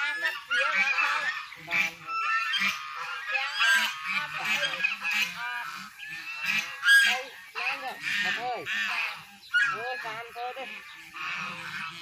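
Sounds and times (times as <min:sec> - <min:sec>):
flock of fowl honking: 0:00.0 - 0:12.0.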